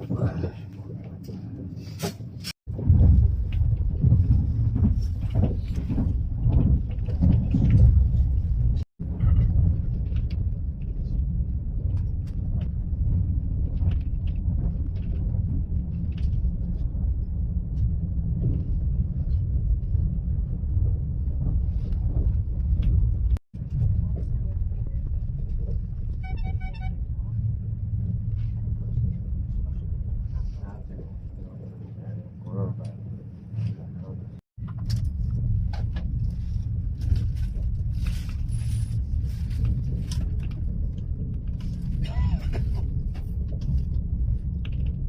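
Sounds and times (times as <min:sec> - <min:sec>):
train carriage rumble: 0:00.0 - 0:45.0.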